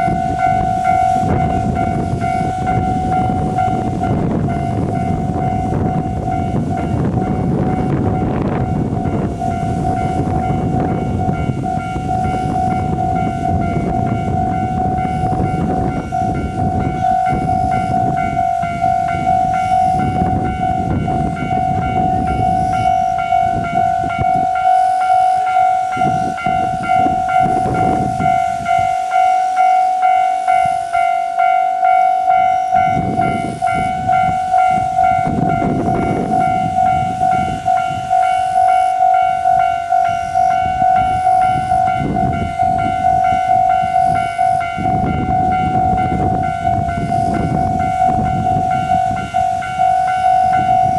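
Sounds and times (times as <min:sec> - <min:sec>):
level crossing alarm bell: 0:00.0 - 0:50.9.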